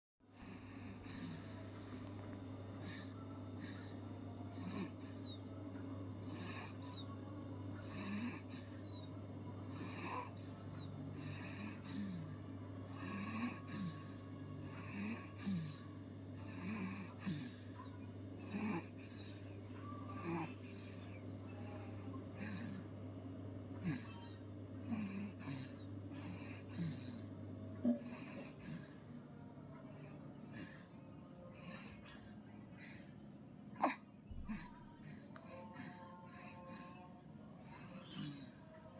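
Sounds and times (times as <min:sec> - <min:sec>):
baby snoring: 0:00.4 - 0:05.4, 0:06.1 - 0:07.2, 0:07.8 - 0:23.0, 0:23.8 - 0:29.1, 0:29.9 - 0:32.4, 0:33.7 - 0:37.1, 0:37.7 - 0:38.7.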